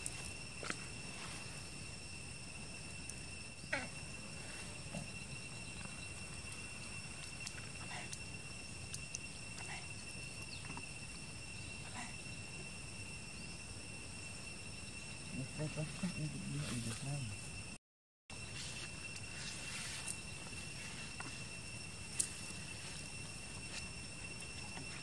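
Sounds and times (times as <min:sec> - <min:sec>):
insect chorus: 0:00.0 - 0:25.0.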